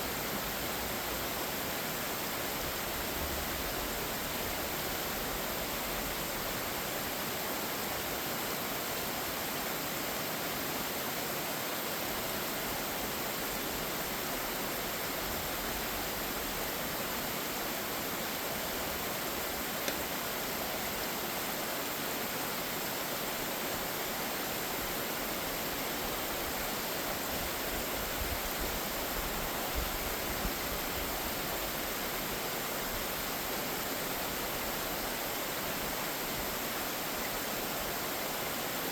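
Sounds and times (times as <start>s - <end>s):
waterfall hissing: 0.0s - 38.9s.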